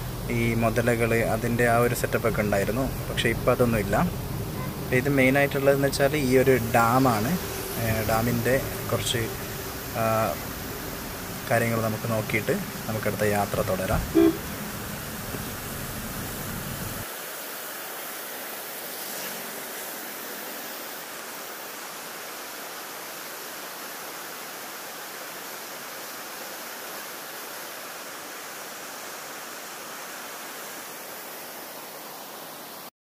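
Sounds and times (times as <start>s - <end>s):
water rushing from spillway: 0.0s - 32.9s.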